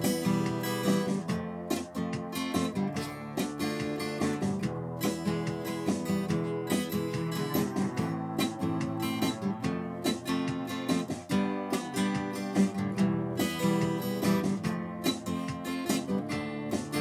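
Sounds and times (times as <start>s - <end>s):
acoustic guitar strummed and plucked: 0.0s - 17.0s.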